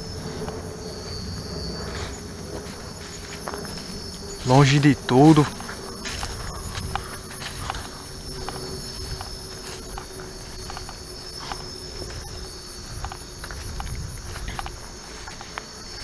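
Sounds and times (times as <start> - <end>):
crickets chirring: 0.0 - 16.0
light ticks and rustles: 1.8 - 16.0.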